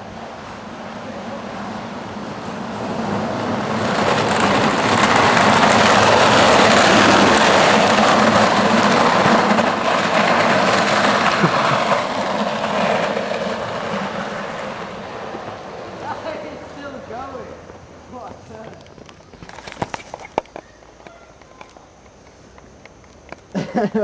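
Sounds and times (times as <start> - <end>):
kart wheels rumbling: 0.0 - 24.0.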